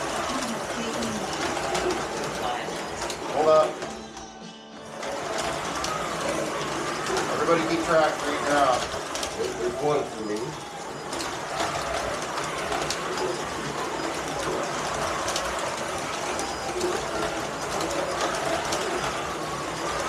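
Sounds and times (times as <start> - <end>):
slot car motors whirring: 0.0 - 20.0.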